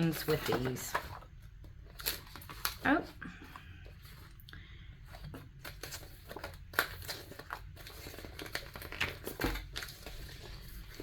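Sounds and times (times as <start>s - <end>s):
vinyl sheets rustling and crinkling: 0.0s - 11.0s.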